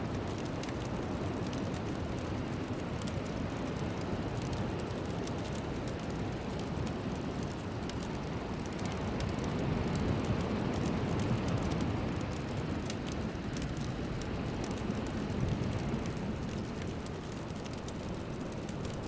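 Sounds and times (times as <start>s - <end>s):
faint crackles: 0.1s - 19.0s.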